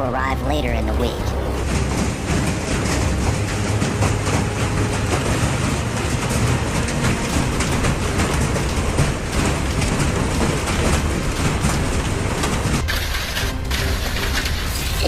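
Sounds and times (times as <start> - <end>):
hailstones clattering on hard surfaces: 1.6 - 15.0.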